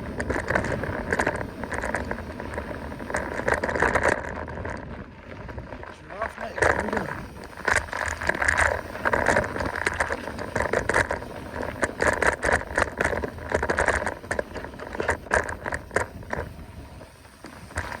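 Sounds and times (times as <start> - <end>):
bike frame rattling: 0.0 - 18.0
bike tyres crackling on trail: 0.0 - 18.0
wind rumbling on microphone: 0.0 - 18.0.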